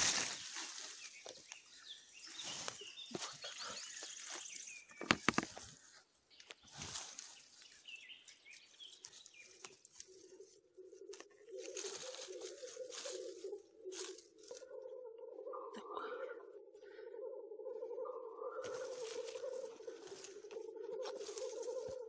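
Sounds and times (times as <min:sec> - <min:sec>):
dry leaves crackling and rustling: 0:00.0 - 0:14.6, 0:18.6 - 0:22.0.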